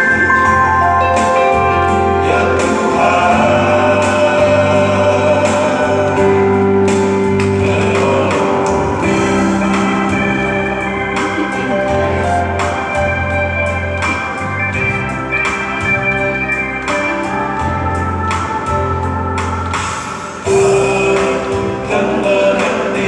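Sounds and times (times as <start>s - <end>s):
electronic organ chords: 0.0s - 23.0s
vocal group singing a hymn: 0.0s - 23.0s.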